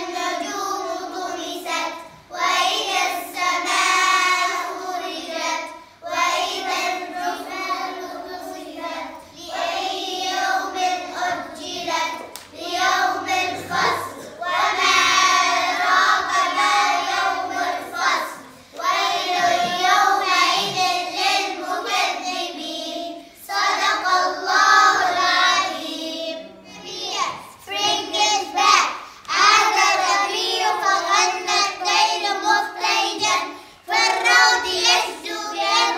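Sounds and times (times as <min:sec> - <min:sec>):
girls singing in unison: 0:00.0 - 0:35.9.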